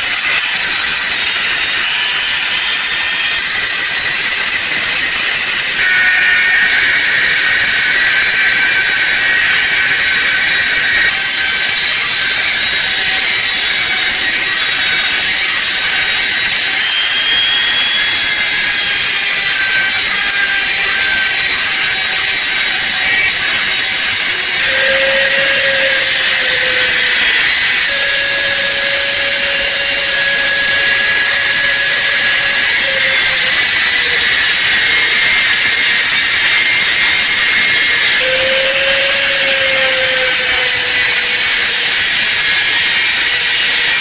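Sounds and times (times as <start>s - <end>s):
power tool hissing on metal: 0.0s - 44.0s.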